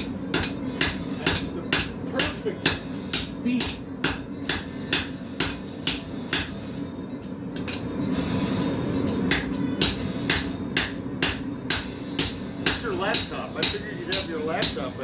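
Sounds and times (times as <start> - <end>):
hammer striking steel on anvil: 0.0 - 6.6, 9.1 - 15.0.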